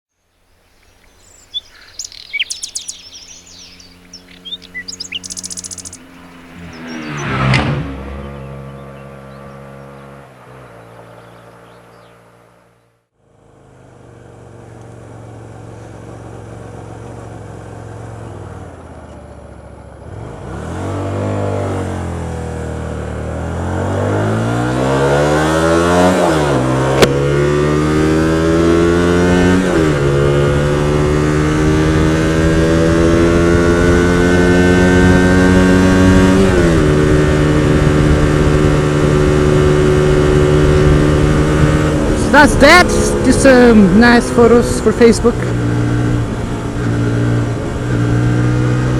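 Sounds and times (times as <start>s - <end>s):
motorcycle engine accelerating: 0.9s - 48.9s.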